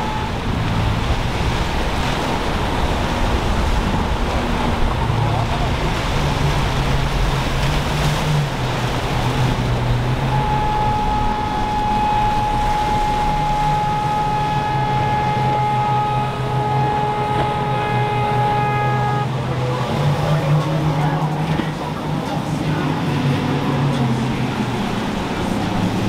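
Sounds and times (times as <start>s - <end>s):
boat horn blast: 0.0s - 26.0s
breaking surf: 0.0s - 26.0s
outboard motors droning: 0.0s - 26.0s.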